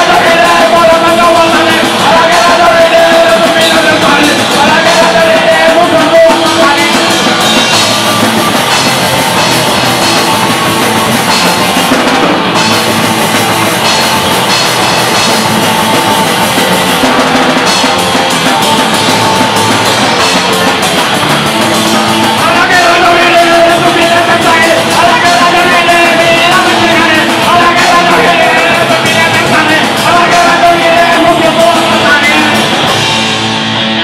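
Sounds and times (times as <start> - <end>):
drum kit with cymbals: 0.0 - 34.0
electric bass: 0.0 - 34.0
electric guitar: 0.0 - 34.0.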